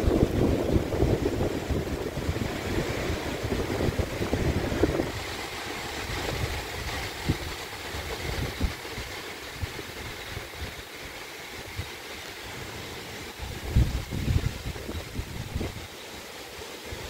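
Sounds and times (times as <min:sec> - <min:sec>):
wind buffeting microphone: 0:00.0 - 0:11.9, 0:13.3 - 0:15.9
hurricane wind hissing: 0:00.0 - 0:17.0.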